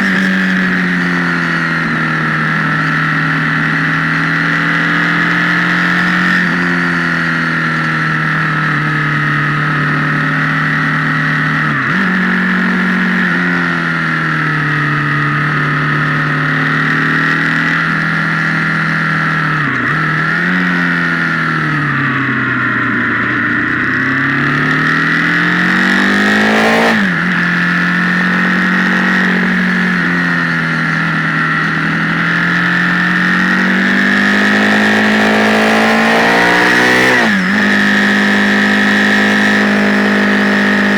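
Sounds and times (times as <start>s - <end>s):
distorted motorcycle engine: 0.0s - 40.9s.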